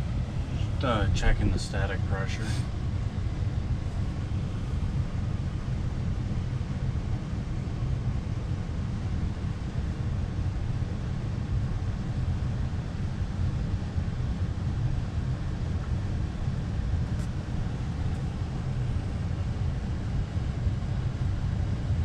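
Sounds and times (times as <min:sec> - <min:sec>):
air handler blower running: 0:00.0 - 0:22.0.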